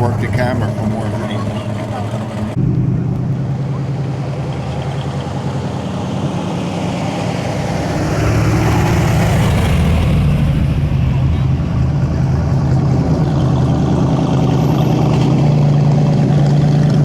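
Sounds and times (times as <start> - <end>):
car engine rumbling at low revs: 0.0 - 17.0.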